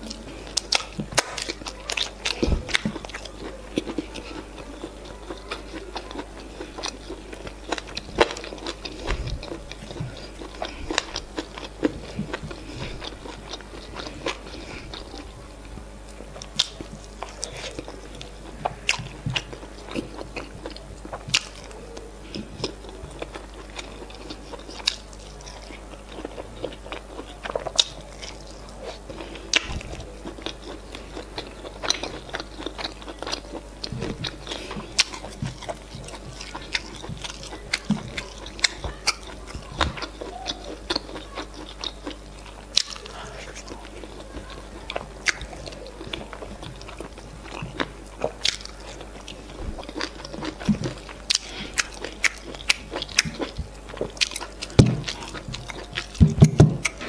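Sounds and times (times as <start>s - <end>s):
chewing: 0.0s - 57.0s.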